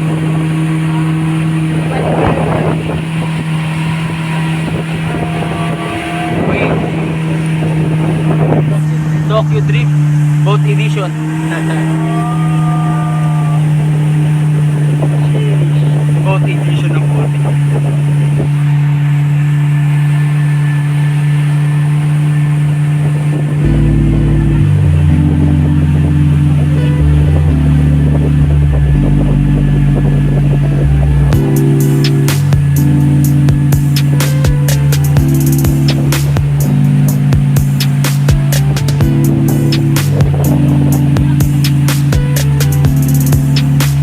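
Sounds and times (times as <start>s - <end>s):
heavy bass music: 0.0s - 20.8s, 22.2s - 44.0s
motorboat engine humming: 0.0s - 44.0s
wind and water rushing: 0.0s - 44.0s.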